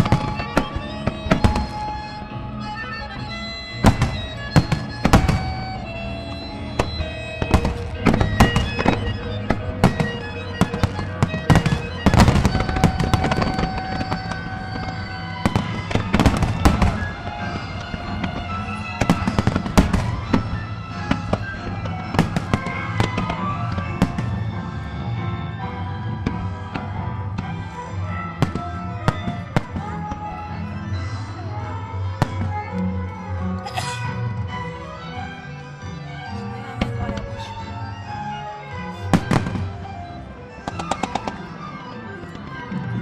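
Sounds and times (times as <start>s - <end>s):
music playing: 0.0s - 43.0s.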